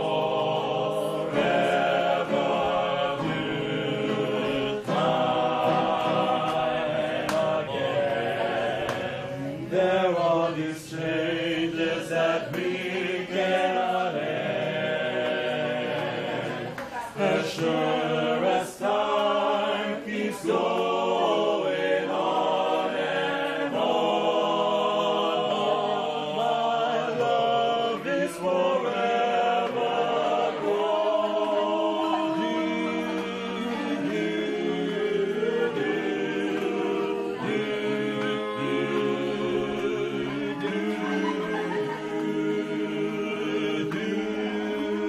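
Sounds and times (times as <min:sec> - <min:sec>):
mixed choir singing: 0:00.0 - 0:45.0.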